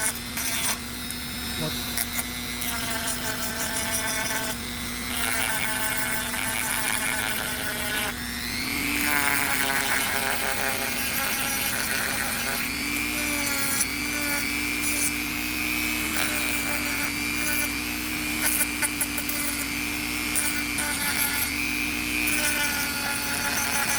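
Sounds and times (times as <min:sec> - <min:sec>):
power tool whining on wood: 0:00.0 - 0:23.9.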